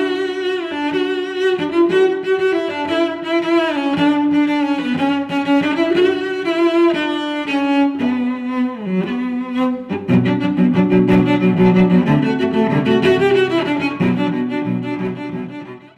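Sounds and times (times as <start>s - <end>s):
cello and violin melody: 0.0s - 15.9s.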